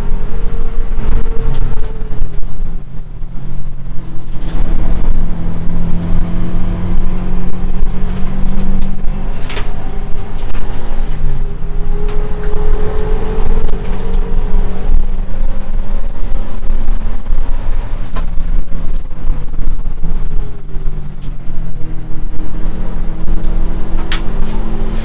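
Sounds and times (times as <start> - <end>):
race car engine from inside cabin: 0.0 - 25.0.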